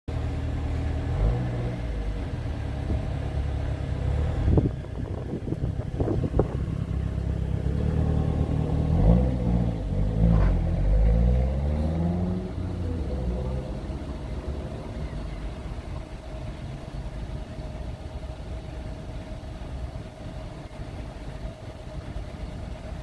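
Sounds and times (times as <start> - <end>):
engine low drone: 0.1 - 23.0.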